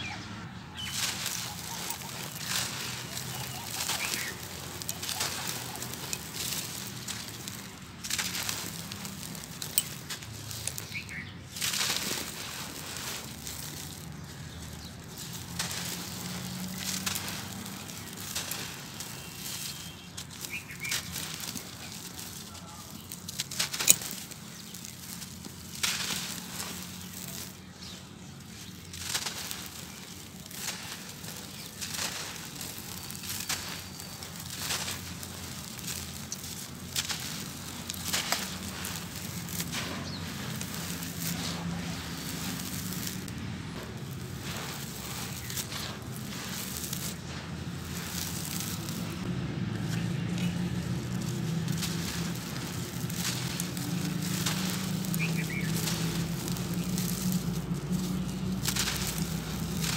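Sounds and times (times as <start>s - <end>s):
cement lumps crunching by hand: 0.8s - 59.9s.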